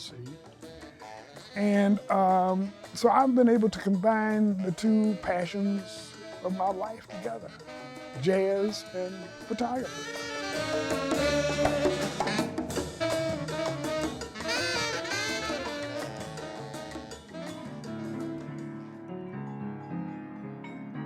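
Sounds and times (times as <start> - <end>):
jazz band playing: 0.0 - 19.1.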